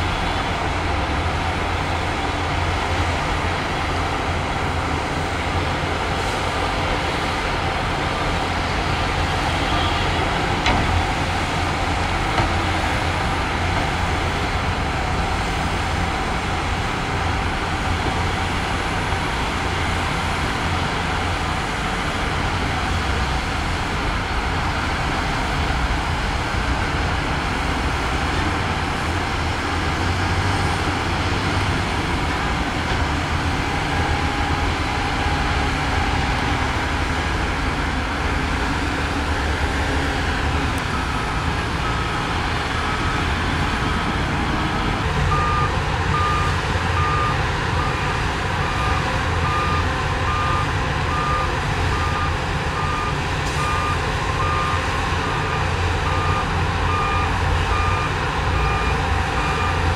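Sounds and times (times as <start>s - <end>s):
diesel machinery engine drone: 0.0s - 59.9s.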